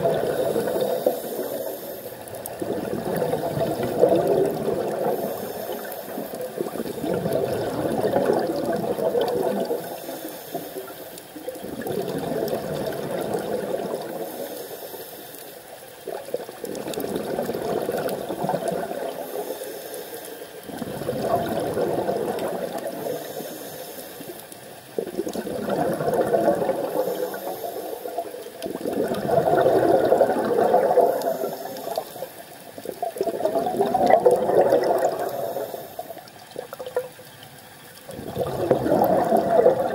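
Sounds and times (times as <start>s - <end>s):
scuba regulator exhaled air bubbling: 0.0s - 37.2s, 38.0s - 39.9s.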